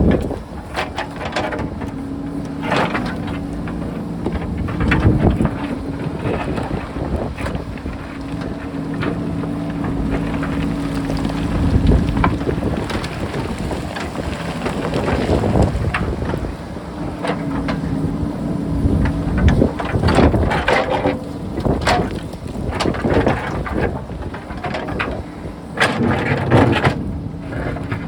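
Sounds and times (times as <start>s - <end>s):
diesel engine working: 0.0s - 28.0s
wind buffeting microphone: 0.0s - 28.0s.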